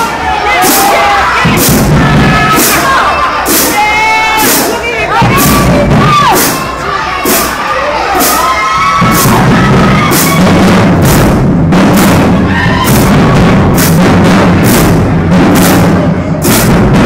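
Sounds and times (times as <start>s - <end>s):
bass and snare drums: 0.0s - 17.0s.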